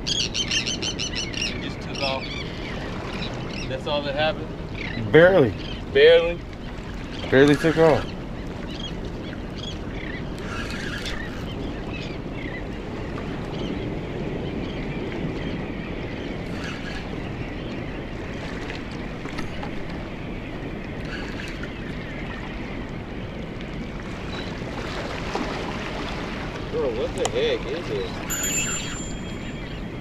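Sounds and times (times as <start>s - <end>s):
wind and surf rushing: 0.0s - 30.0s
wind buffeting microphone: 0.0s - 30.0s.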